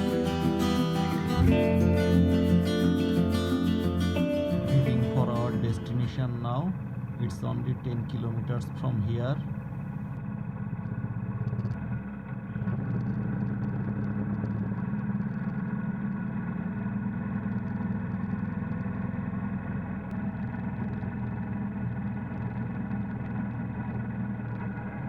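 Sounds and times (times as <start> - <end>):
motorcycle engine riding: 4.2 - 25.0.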